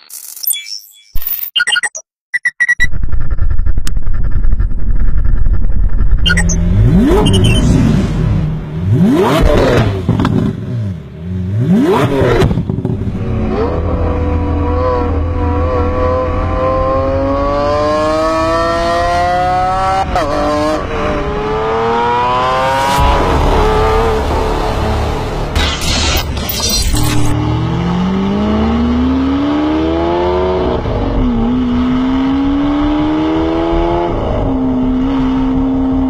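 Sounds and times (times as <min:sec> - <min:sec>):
car engine revving: 0:06.4 - 0:36.0.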